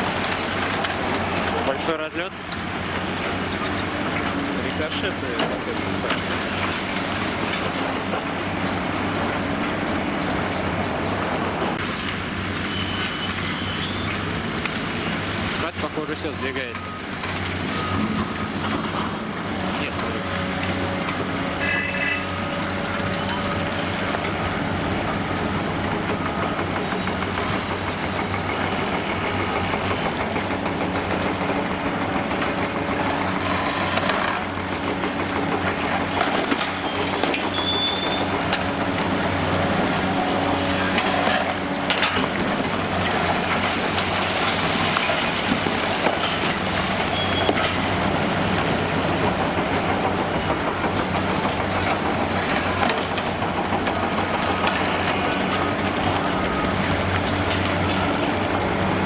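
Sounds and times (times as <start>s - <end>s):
concrete crackling and cracking: 0.0s - 59.0s
excavator diesel engine: 0.0s - 59.0s.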